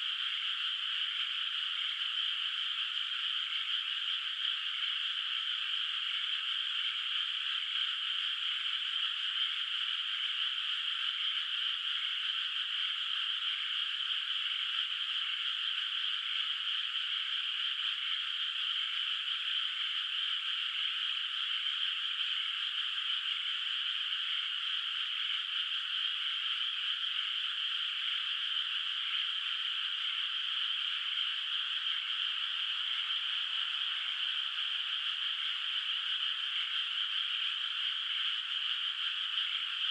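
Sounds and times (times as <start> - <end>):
chorus of frogs trilling: 0.0 - 39.9.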